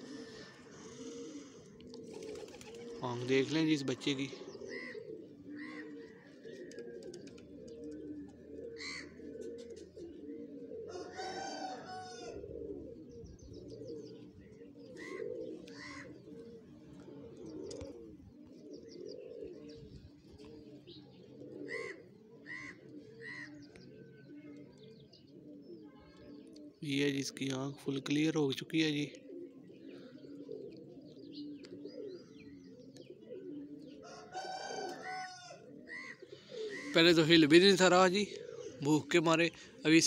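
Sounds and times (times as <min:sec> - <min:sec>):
pigeons cooing: 0:00.0 - 0:40.0.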